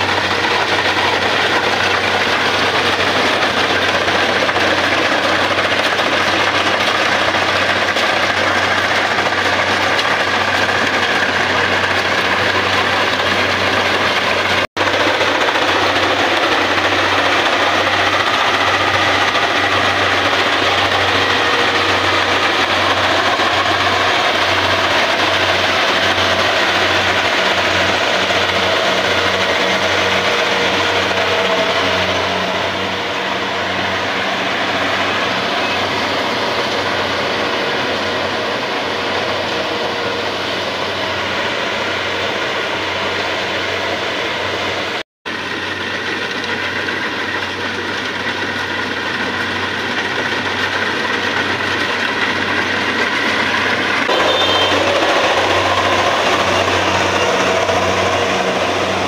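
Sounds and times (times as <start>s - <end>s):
harvester machinery clatter: 0.0s - 44.6s, 45.3s - 59.0s
diesel engine throbbing: 0.0s - 59.0s.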